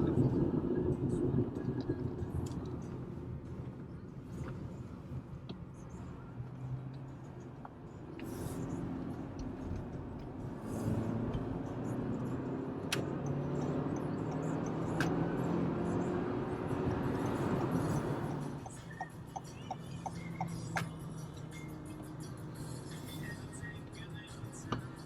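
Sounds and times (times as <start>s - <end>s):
car engine hum: 0.0s - 25.0s
road noise: 0.0s - 25.0s.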